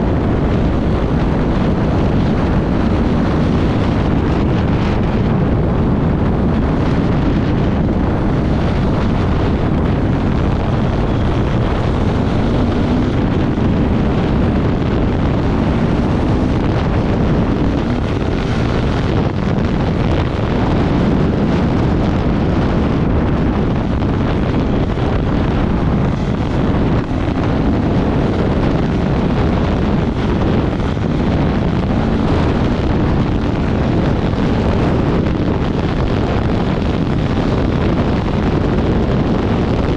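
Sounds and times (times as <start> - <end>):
wind buffeting microphone: 0.0 - 39.9
motorcycle engine: 0.1 - 35.2.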